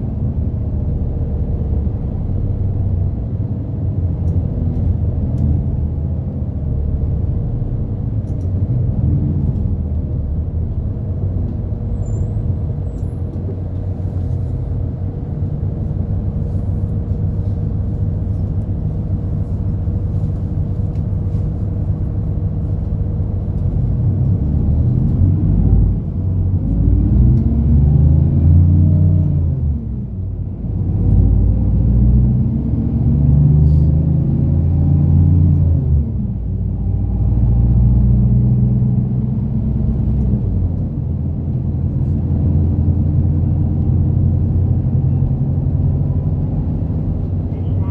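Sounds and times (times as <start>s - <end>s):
bus engine revving: 0.0s - 47.9s
road rumble: 0.0s - 47.9s.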